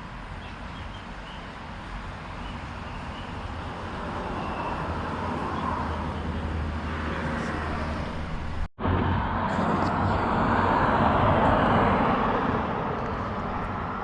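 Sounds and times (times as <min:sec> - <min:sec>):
vehicle noise: 0:00.0 - 0:14.0.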